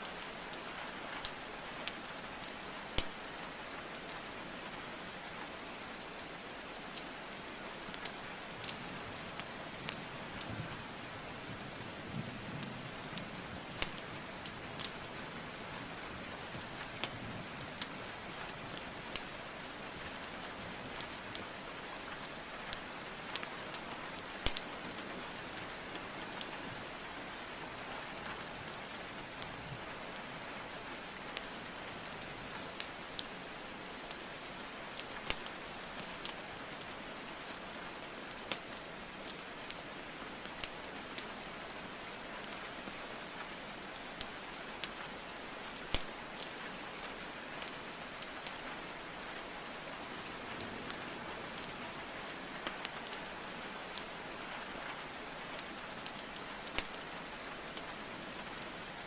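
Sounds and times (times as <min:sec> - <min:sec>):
steady rainfall: 0:00.0 - 0:59.0
burning logs crackling: 0:00.1 - 0:03.3, 0:07.2 - 0:12.0, 0:12.6 - 0:27.0, 0:28.3 - 0:41.4, 0:42.1 - 0:49.1, 0:49.7 - 0:54.4, 0:55.0 - 0:59.0.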